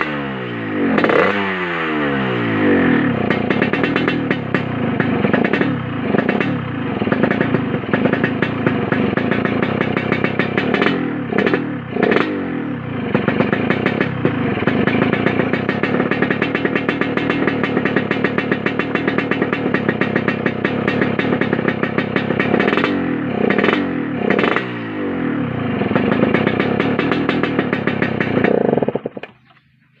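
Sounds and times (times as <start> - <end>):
two-stroke motorcycle engine revving: 0.0 - 30.0.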